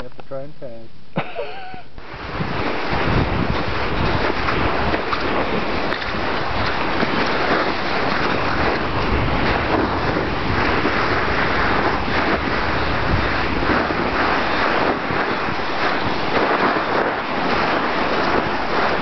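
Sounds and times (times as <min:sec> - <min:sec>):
wind buffeting microphone: 0:02.0 - 0:19.0
body sliding on snow: 0:02.3 - 0:19.0.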